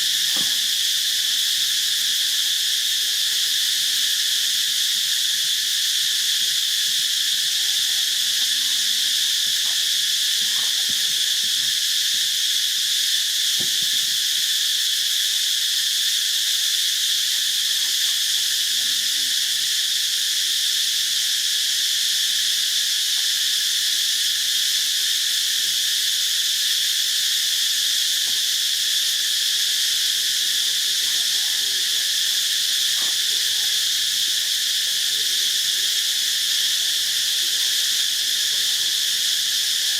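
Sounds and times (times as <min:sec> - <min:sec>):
insect chorus shrilling: 0:00.0 - 0:39.9.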